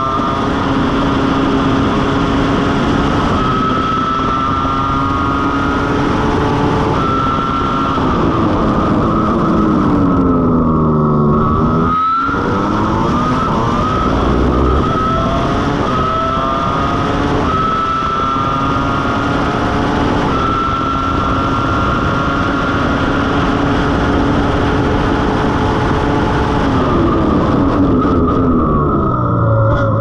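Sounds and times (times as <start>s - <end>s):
racing car engine at full throttle: 0.0s - 30.0s.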